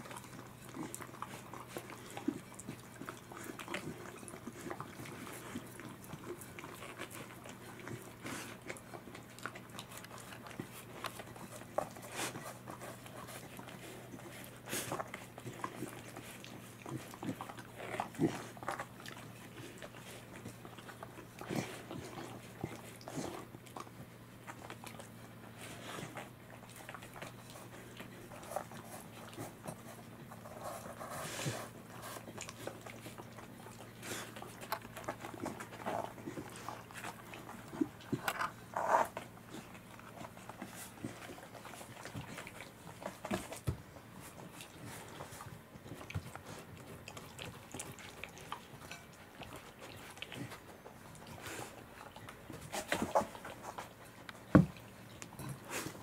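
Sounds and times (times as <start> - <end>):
dogs licking a plate: 0.0 - 56.0
low steady hum: 0.0 - 56.0.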